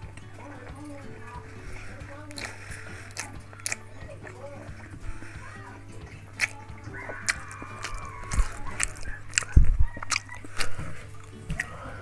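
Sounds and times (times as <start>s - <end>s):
mouth chewing wet smacks: 0.0s - 12.0s.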